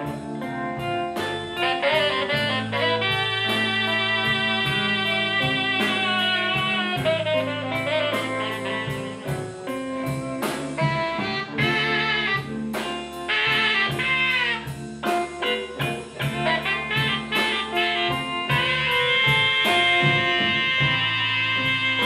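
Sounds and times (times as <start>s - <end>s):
drums: 0.0s - 22.0s
saxophone long notes: 0.0s - 22.0s
steady cymbal beat: 0.0s - 22.0s.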